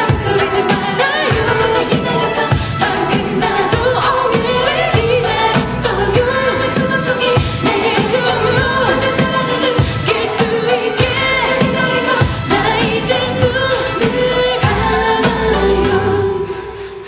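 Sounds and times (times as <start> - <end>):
steady drum beat: 0.0 - 15.8
pop song vocals: 0.0 - 17.0.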